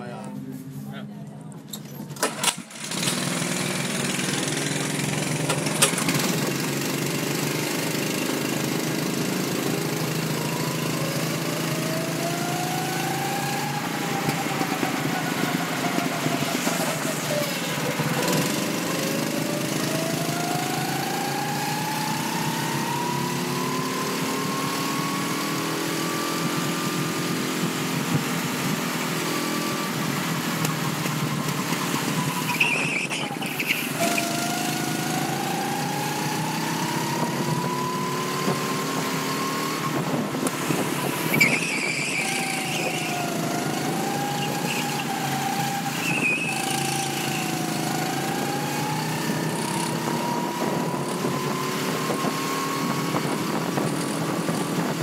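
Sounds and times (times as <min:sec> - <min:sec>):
go-kart engine running: 0:01.8 - 0:55.0.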